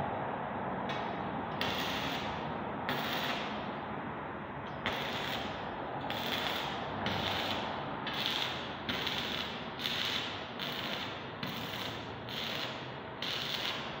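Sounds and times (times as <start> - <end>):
welding arc crackling: 0.9 - 3.6, 4.8 - 14.0.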